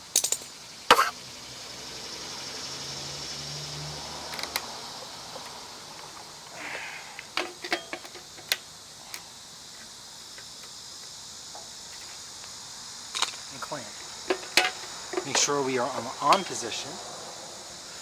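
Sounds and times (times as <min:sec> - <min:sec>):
steady faint hiss: 0:00.0 - 0:18.0.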